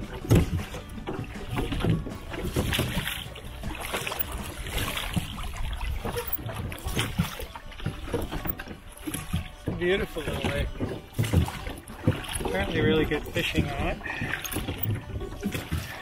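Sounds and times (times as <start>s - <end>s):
oars splashing through water: 0.0s - 16.0s
water slapping against hull: 0.0s - 16.0s.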